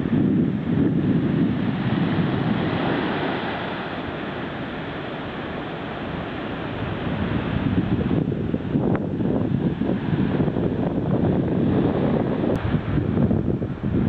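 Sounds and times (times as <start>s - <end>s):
surf breaking on sandy beach: 0.0s - 14.0s
wind buffeting microphone: 0.0s - 14.0s.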